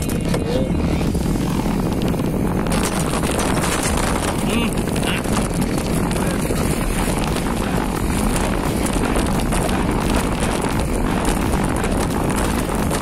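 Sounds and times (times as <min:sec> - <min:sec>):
heavy low rumble: 0:00.0 - 0:13.0
wind buffeting microphone: 0:00.0 - 0:13.0.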